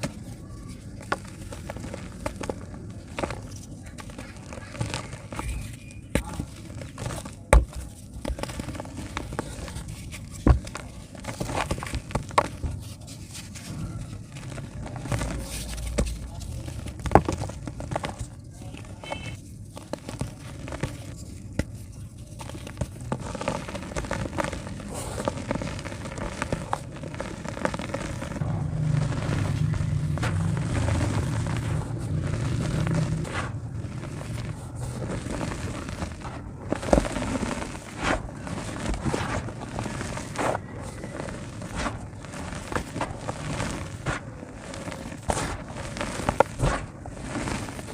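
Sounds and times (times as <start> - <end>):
dry dirt clumps crumbling: 0.0 - 47.9.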